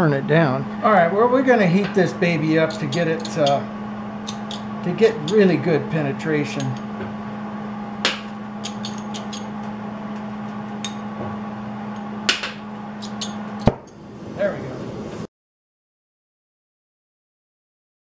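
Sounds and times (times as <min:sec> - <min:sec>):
steady electrical hum: 0:00.0 - 0:15.3.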